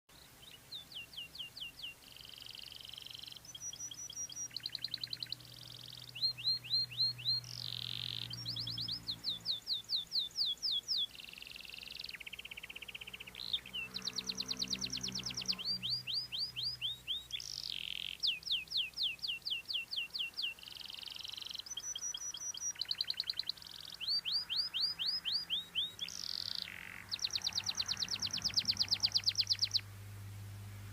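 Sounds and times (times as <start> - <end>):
canary singing trills: 0.1 - 29.9.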